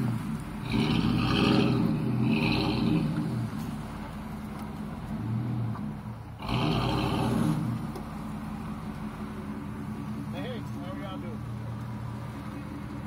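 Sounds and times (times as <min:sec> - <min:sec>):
pickup truck engine revving: 0:00.0 - 0:13.0.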